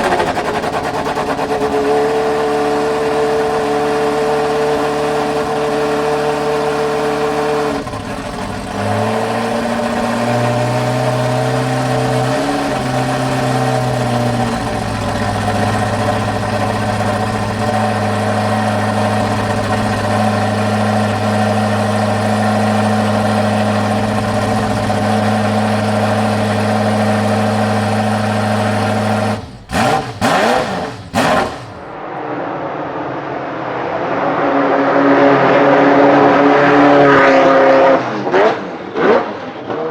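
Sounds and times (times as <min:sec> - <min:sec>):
car engine idling: 0:00.0 - 0:32.1
car engine revving: 0:00.0 - 0:39.9.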